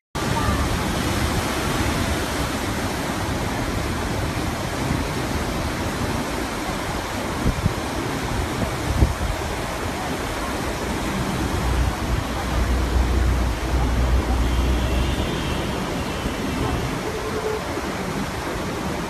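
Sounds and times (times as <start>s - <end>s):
water rushing down a channel: 0.2s - 19.0s.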